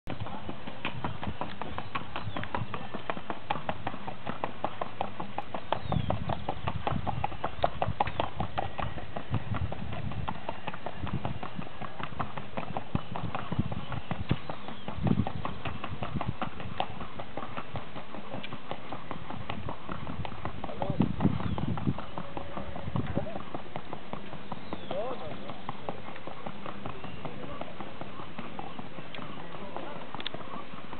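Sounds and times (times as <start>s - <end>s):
horse hoofbeats on dirt: 0.1s - 30.9s.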